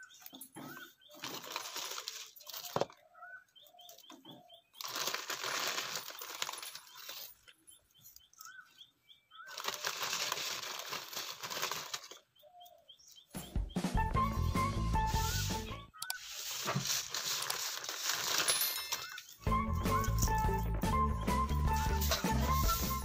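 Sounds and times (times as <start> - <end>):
birds chirping: 0.0 - 10.2, 12.0 - 16.6, 18.5 - 23.0.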